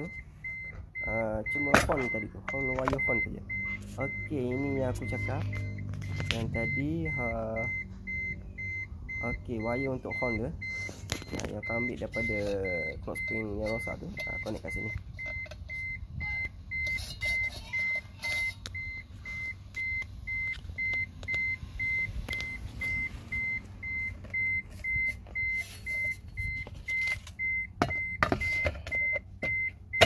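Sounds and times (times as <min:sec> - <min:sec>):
car warning chime beeping: 0:00.0 - 0:30.0.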